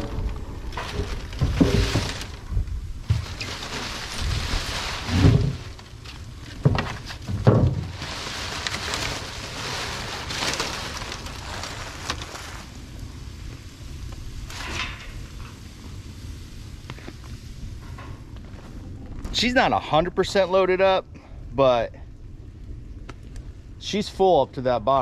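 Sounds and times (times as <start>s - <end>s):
fire crackling and hissing: 0.0s - 25.0s.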